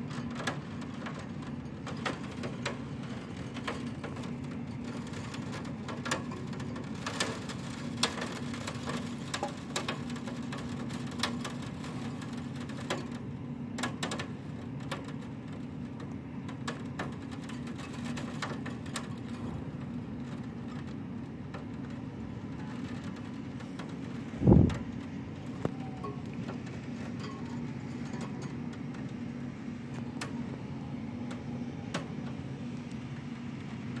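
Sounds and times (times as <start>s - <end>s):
rain ticking on window glass: 0.0s - 34.0s
steady low hum: 0.0s - 34.0s.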